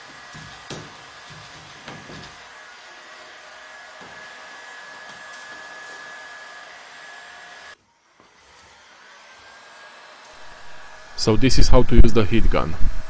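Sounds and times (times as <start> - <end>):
hot air gun fan whine: 0.0 - 13.0.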